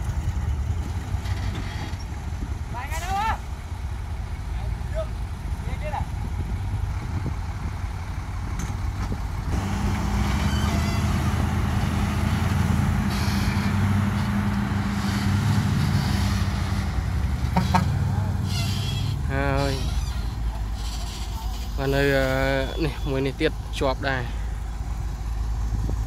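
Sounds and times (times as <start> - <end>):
truck diesel engine under load: 0.0 - 26.0.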